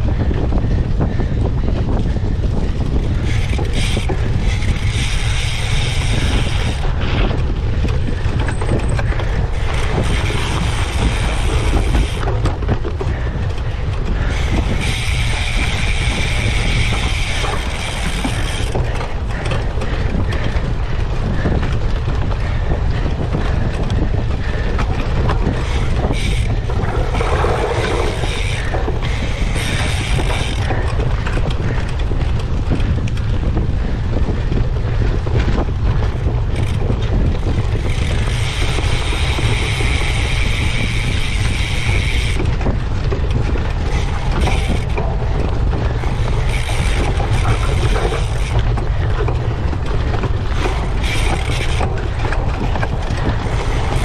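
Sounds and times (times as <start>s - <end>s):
bike mechanical rattle: 0.0s - 54.0s
wind buffeting microphone: 0.0s - 54.0s.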